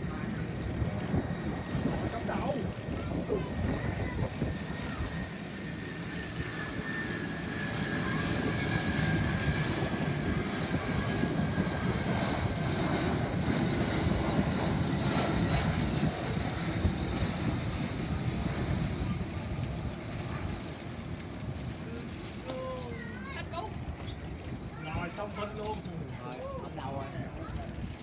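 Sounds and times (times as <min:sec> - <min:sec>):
jet airliner climbing: 0:00.0 - 0:28.0.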